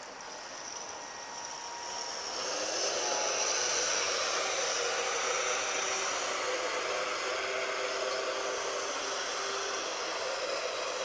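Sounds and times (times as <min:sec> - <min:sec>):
water-jet drive whine: 0:00.0 - 0:11.0.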